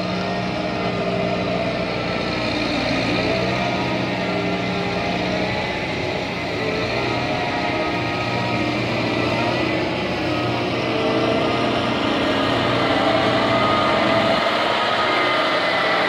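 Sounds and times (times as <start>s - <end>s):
boat hauler engine running: 0.0s - 16.0s.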